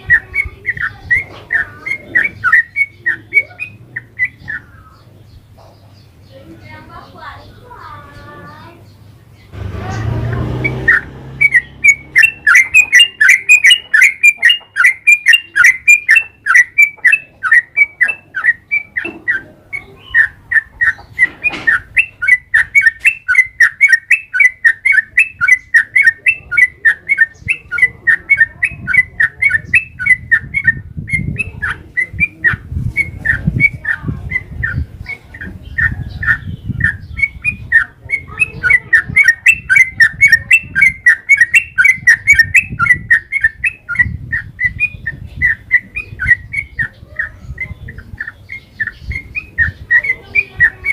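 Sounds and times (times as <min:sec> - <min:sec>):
bird singing sharp chirps: 0:08.8 - 0:50.9.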